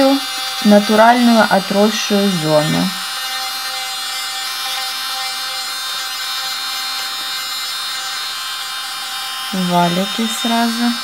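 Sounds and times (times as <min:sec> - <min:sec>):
electric nail drill grinding: 0:00.0 - 0:11.0.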